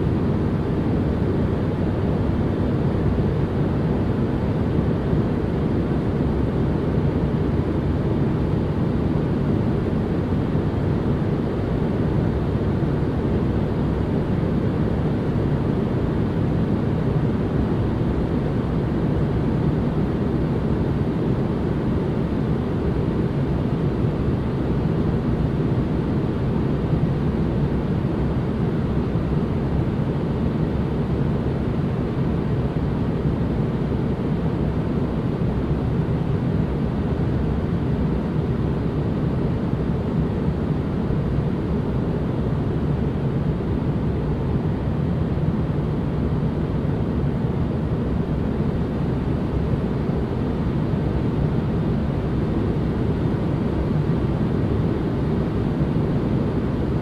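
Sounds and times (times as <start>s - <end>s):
deep rumbling ambient noise: 0.0s - 57.0s.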